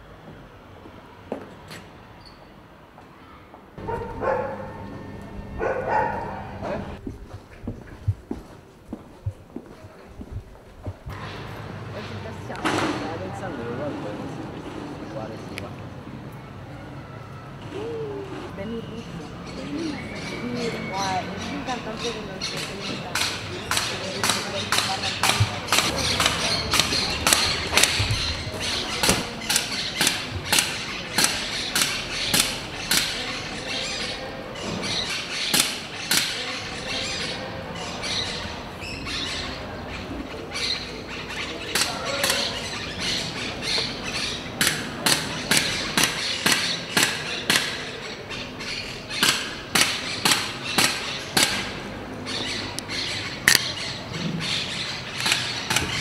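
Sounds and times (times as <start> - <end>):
steady noisy background: 3.7 - 56.0.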